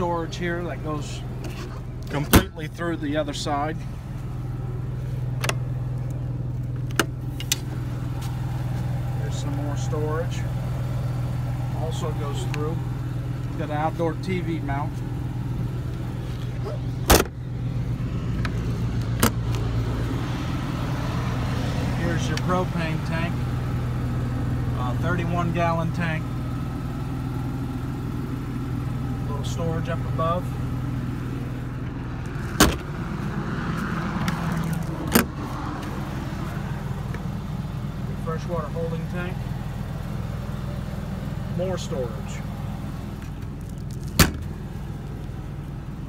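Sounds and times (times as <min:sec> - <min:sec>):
low motor hum: 0:00.0 - 0:46.0.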